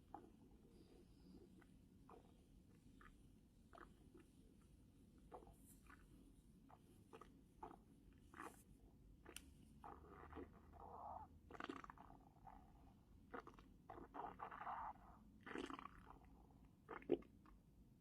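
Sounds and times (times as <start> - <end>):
stomach gurgling: 0.0 - 17.8.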